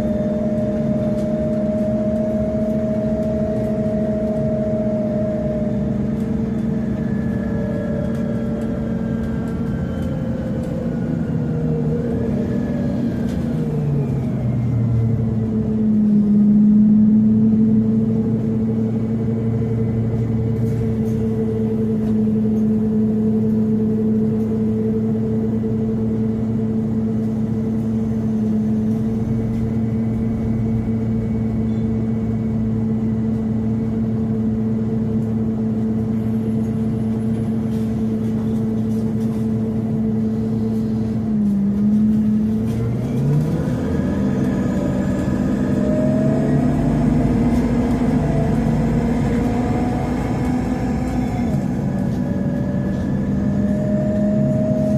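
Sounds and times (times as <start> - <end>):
bus engine idling and accelerating: 0.0 - 54.9.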